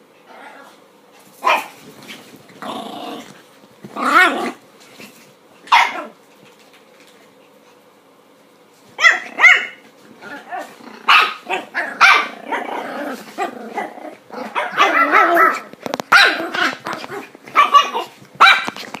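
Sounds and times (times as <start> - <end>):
small dogs barking and growling: 0.2 - 6.4, 9.0 - 19.0.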